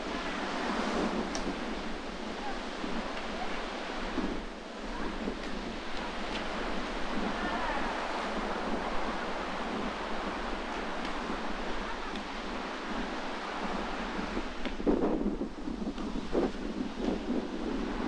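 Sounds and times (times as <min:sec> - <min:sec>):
sea waves breaking on shore: 0:00.0 - 0:18.0
wind buffeting microphone: 0:00.0 - 0:18.0.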